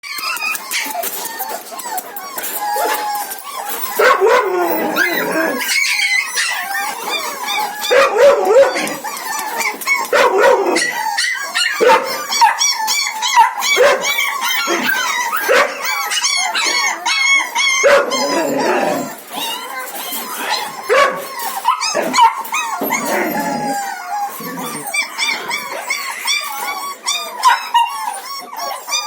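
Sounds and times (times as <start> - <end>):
puppies yapping and whining: 0.0 - 29.0.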